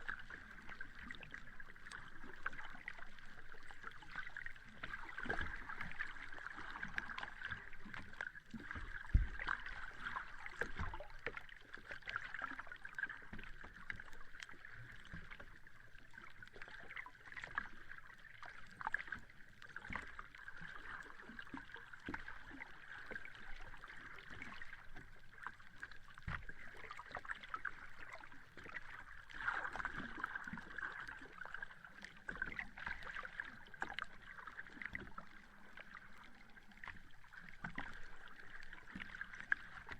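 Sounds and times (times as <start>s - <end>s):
sea water lapping on beach: 0.0s - 15.4s, 19.9s - 39.9s.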